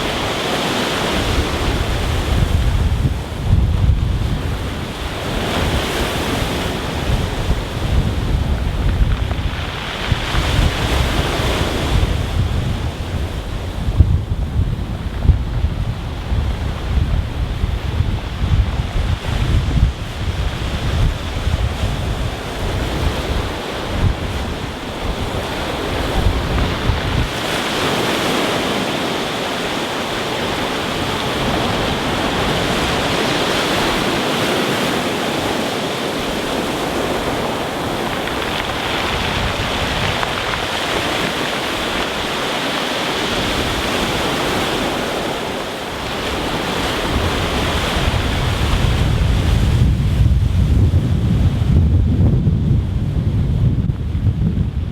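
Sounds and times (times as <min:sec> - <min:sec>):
surf washing up stony beach: 0:00.0 - 0:54.9
wind buffeting microphone: 0:00.0 - 0:54.9.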